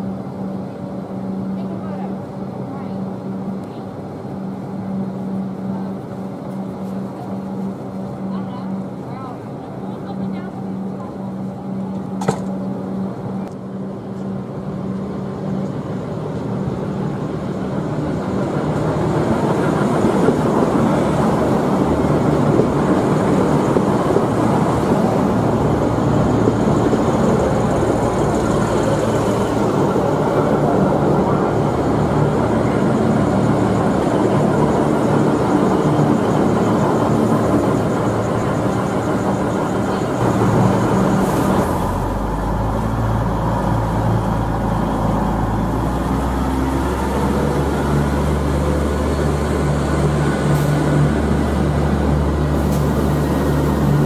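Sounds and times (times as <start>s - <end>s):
diesel railcar engines running: 0.0s - 54.0s.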